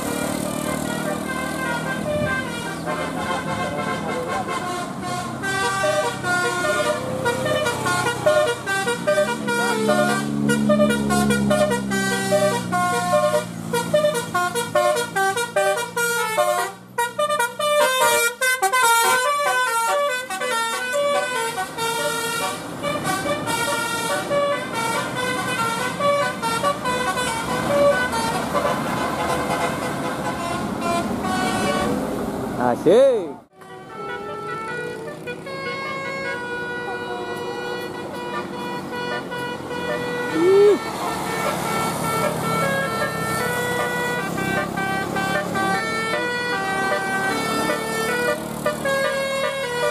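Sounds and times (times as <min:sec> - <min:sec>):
multi-trumpet bus horn melody: 0:00.0 - 0:32.2, 0:33.5 - 0:49.9
bus engine humming: 0:00.0 - 0:49.9.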